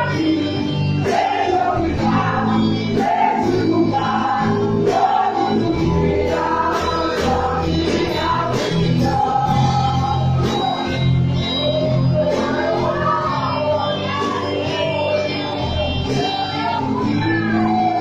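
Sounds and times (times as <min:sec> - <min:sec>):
band with bass and drums: 0:00.0 - 0:18.0
gospel singing voices: 0:00.0 - 0:18.0.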